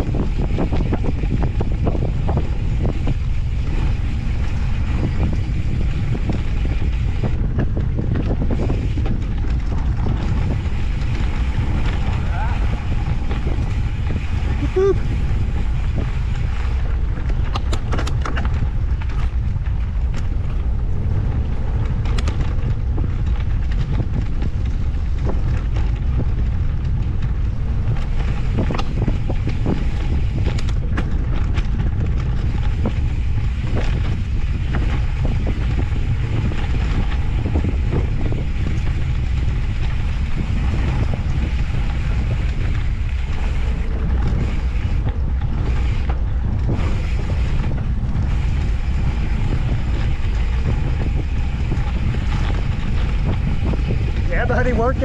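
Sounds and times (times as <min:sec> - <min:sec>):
bike clicks and rattles: 0:00.0 - 0:55.0
low rumble of rolling wheels: 0:00.0 - 0:55.0
wind buffeting microphone: 0:00.0 - 0:55.0.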